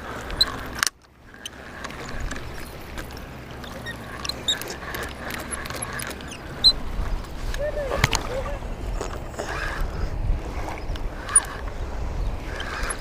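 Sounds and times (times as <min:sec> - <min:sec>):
seawater sloshing around legs: 0:00.0 - 0:13.0.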